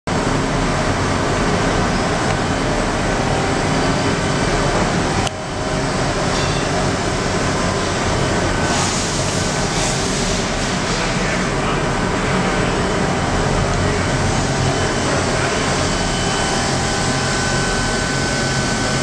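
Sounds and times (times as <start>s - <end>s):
machine shop hum and rush: 0.1s - 19.0s.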